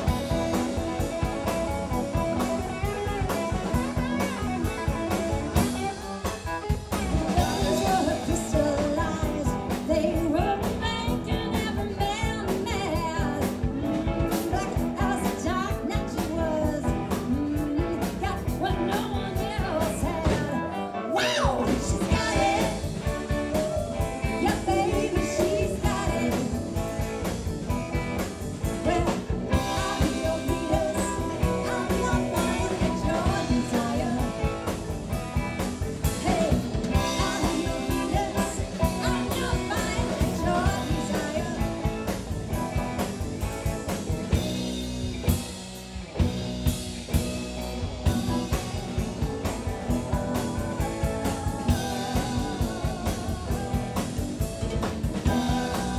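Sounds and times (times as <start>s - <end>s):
woman singing lead: 0.0s - 44.5s, 48.0s - 55.9s
drum kit: 0.0s - 55.9s
electric bass: 0.0s - 55.9s
electric guitar: 0.0s - 55.9s.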